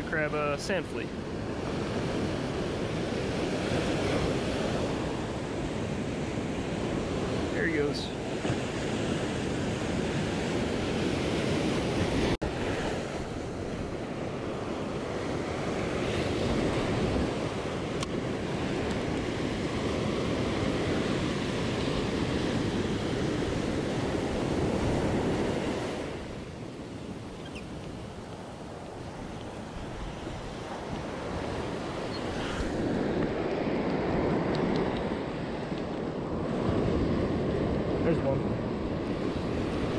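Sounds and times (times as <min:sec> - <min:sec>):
surf washing up a beach: 0:00.0 - 0:39.9
wind buffeting the microphone: 0:01.0 - 0:39.9.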